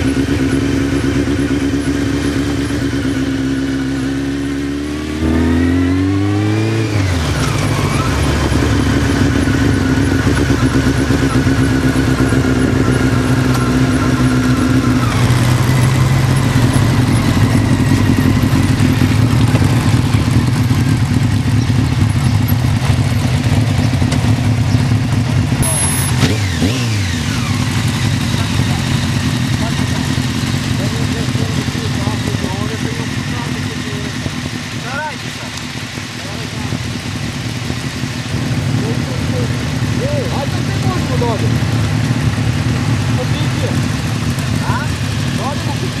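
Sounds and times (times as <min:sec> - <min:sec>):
motorcycle engines accelerating: 0:00.0 - 0:46.0.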